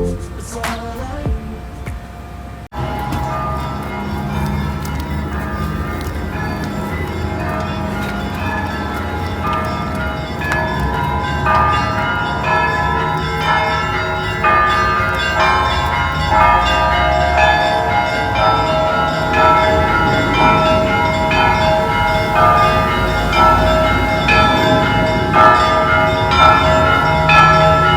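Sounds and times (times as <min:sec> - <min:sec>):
church bells ringing a peal: 0:02.7 - 0:27.9.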